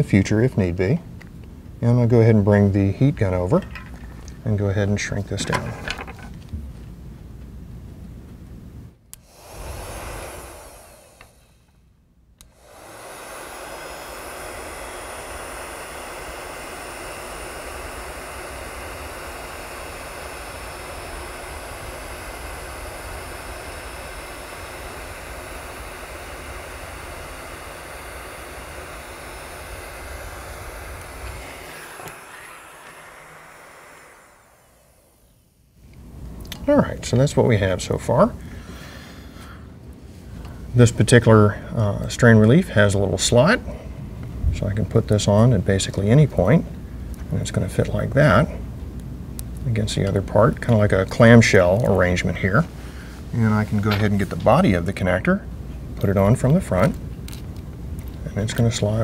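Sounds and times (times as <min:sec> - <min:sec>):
heat gun blowing air: 0:09.1 - 0:36.0, 0:37.0 - 0:59.0.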